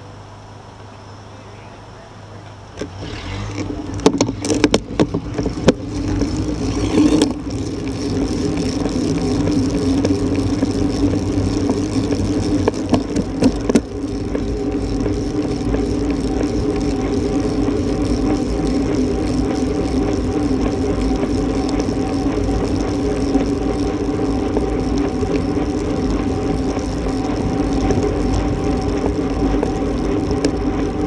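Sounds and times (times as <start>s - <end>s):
motor traffic: 0.0s - 31.0s
sharp clicks and knocks: 2.5s - 31.0s
wind noise: 2.9s - 31.0s.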